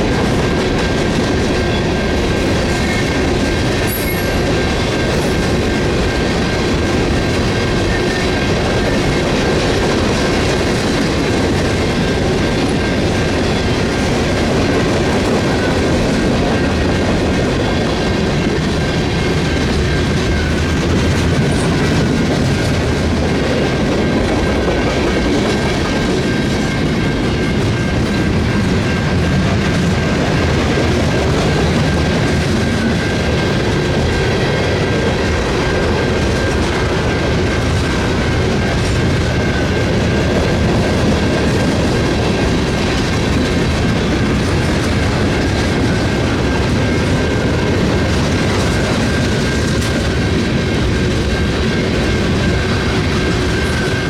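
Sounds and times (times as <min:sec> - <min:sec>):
train wheels clattering on rail: 0:00.0 - 0:54.0.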